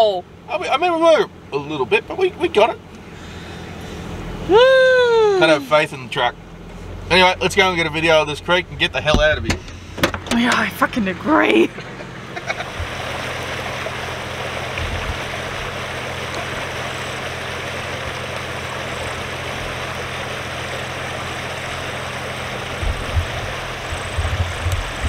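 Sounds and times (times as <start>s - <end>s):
engine idling: 0.0s - 25.0s
low rumbles: 0.0s - 25.0s.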